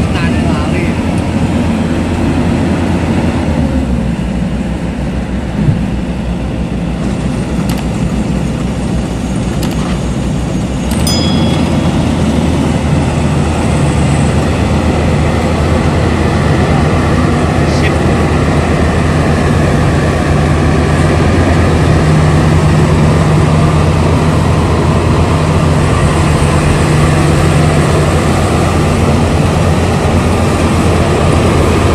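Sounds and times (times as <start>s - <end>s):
combine harvester engine and threshing: 0.0s - 31.9s.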